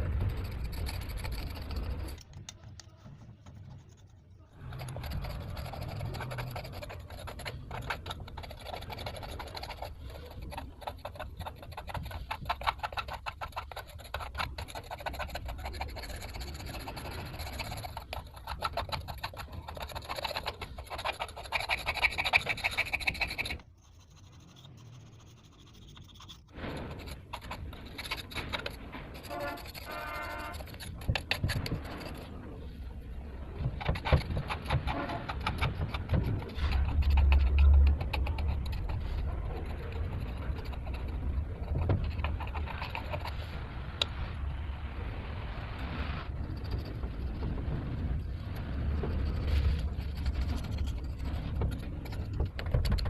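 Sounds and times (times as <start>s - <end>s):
brush scrubbing engine part: 0.0s - 44.2s, 45.8s - 53.0s.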